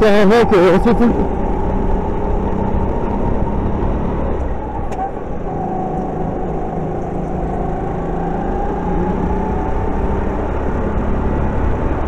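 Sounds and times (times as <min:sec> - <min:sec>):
go-kart engine under throttle: 0:00.0 - 0:12.0.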